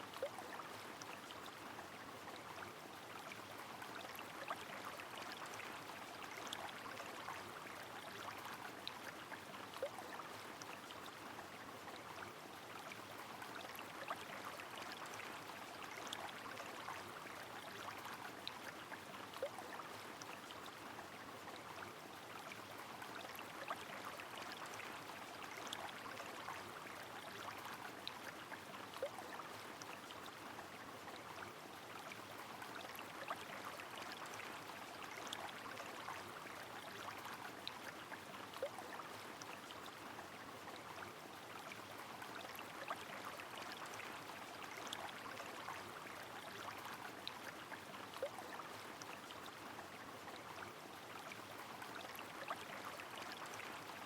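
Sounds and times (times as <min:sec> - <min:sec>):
running river water: 0:00.0 - 0:54.0.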